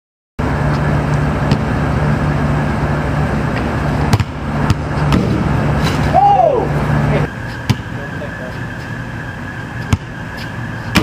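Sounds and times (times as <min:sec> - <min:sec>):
low hum and rumble: 0:00.4 - 0:11.0.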